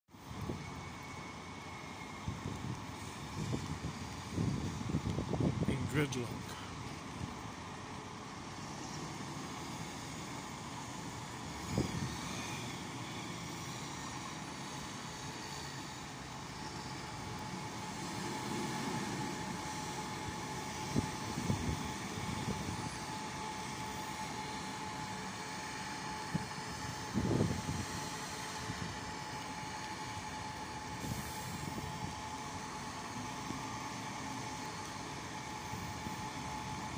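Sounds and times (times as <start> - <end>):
road traffic on wet roads: 0.9 - 36.9.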